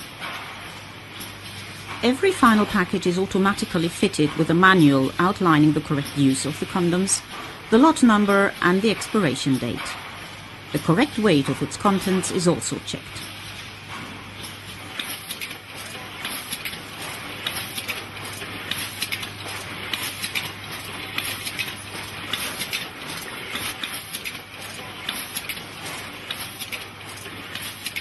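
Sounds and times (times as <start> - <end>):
machine clicking and clattering: 0.0 - 28.0
steady machine noise: 0.0 - 28.0.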